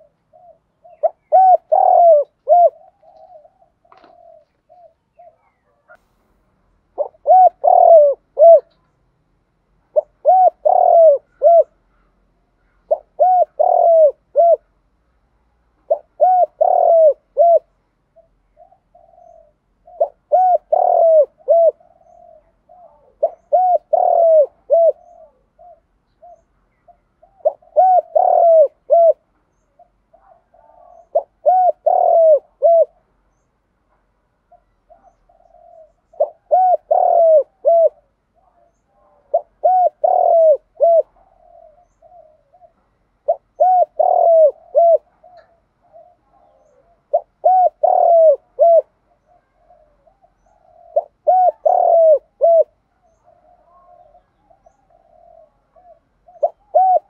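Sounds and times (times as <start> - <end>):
dove cooing: 0.0 - 6.0, 6.9 - 9.0, 9.8 - 14.9, 15.8 - 33.4, 34.4 - 57.0
soft dove coos: 0.0 - 6.2, 6.9 - 9.0, 9.7 - 14.9, 15.7 - 57.0.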